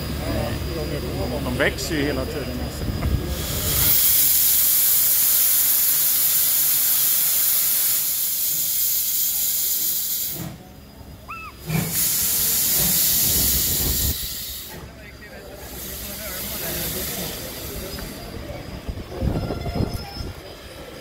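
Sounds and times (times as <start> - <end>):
steam hissing loudly: 0.0 - 10.8, 11.5 - 19.5
steam locomotive pulling away: 0.0 - 21.0.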